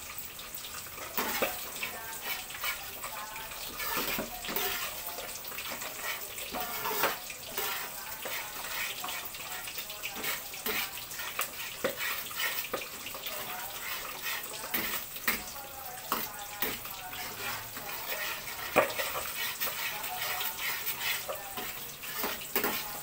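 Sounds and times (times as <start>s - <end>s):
sauce simmering and bubbling: 0.0s - 23.0s
metal spatula scraping pan: 1.0s - 23.0s.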